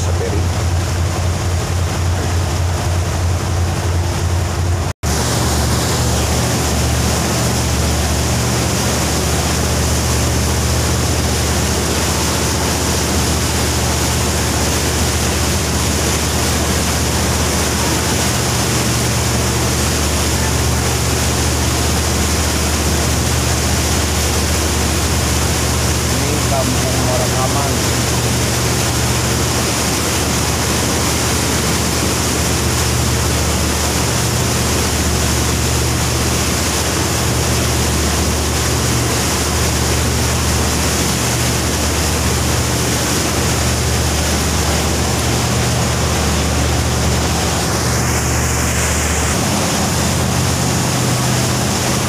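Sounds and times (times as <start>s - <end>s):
boat engine droning: 0.0s - 52.0s
wind and water rushing: 0.0s - 52.0s.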